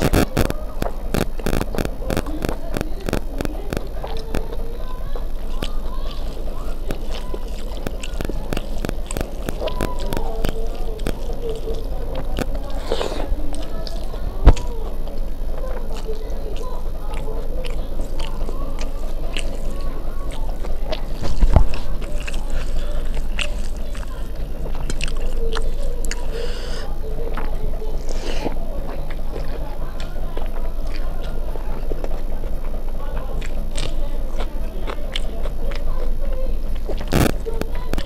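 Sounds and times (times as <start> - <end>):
wet chewing with mouth clicks: 0.0 - 38.0.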